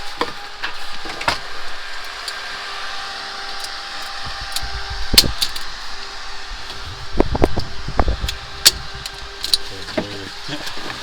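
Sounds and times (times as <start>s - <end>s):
fan-like hum: 0.0s - 11.0s.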